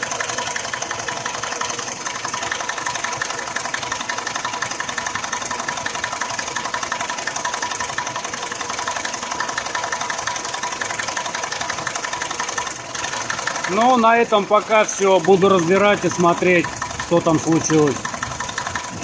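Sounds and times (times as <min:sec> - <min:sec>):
car engine idling: 0:00.0 - 0:19.0
rapid engine knock: 0:00.0 - 0:19.0.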